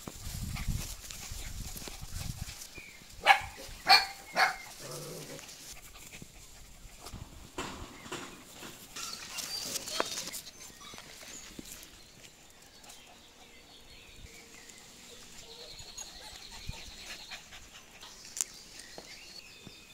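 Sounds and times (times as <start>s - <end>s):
puppies panting and whimpering: 0.3s - 19.6s.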